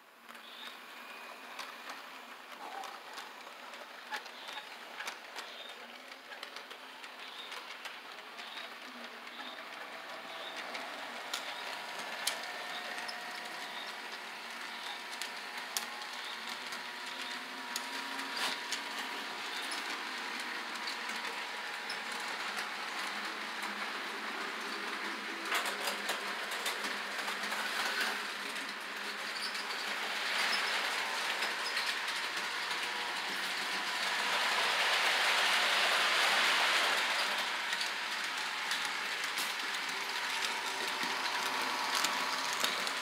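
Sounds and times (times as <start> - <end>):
model train wheels rolling: 0.0 - 43.0.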